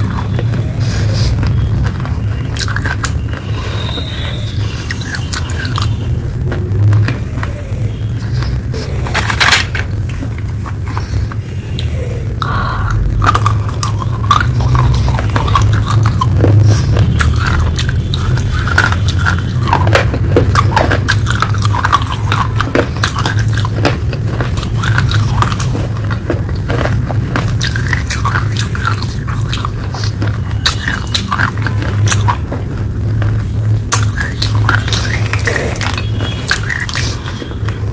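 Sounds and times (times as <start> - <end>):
person chewing crunchy pieces: 0.0 - 37.9
steady low hum: 0.0 - 37.9.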